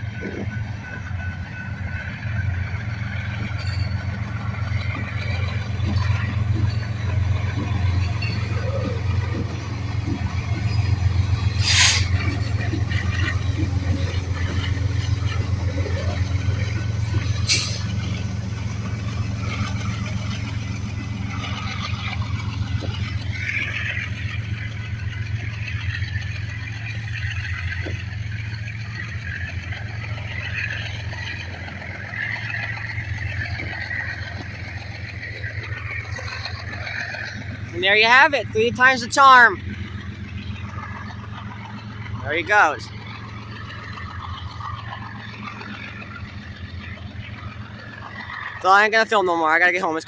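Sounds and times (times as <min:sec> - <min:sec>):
freight train cars rolling past: 0:00.0 - 0:50.0.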